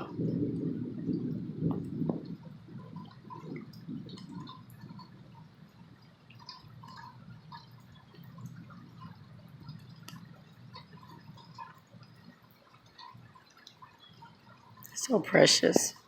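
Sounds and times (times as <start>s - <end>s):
raindrops tapping: 0.0s - 16.0s.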